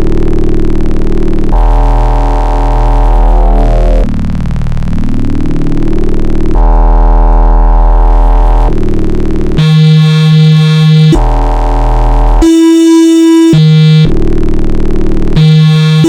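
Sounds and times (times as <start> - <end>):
buzzy synthesizer notes: 0.0 - 16.0.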